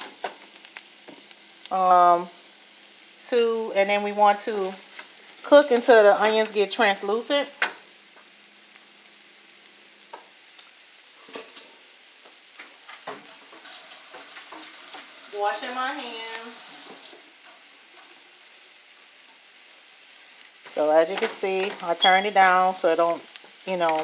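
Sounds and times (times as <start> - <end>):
onions and chicken sizzling in skillet: 0.0 - 24.0.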